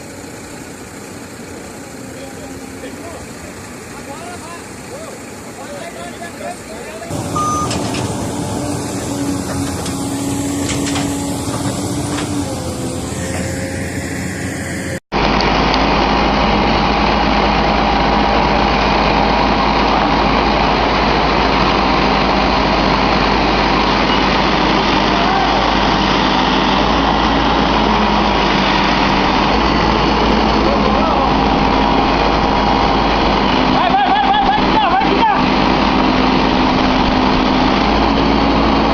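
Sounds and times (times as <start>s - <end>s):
dull engine drone: 0.0s - 38.9s
heavy equipment engines running: 0.0s - 38.9s.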